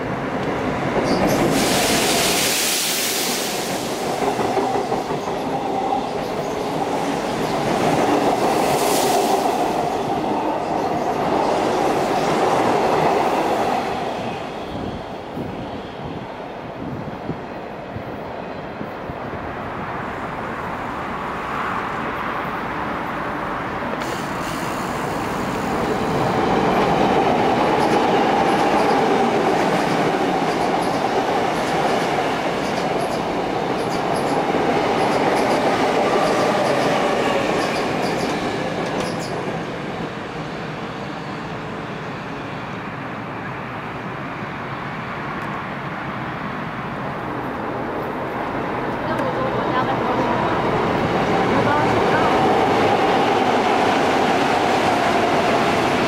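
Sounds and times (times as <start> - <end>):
electric train crossing a bridge: 0.0 - 56.0.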